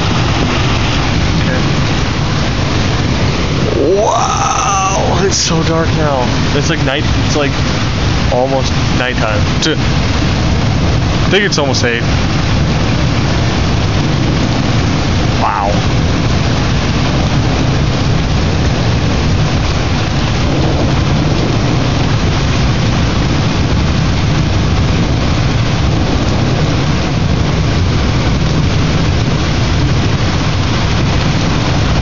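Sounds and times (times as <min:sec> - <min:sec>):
deep thunder rumble: 0:00.0 - 0:32.0
heavy rain falling: 0:00.0 - 0:32.0.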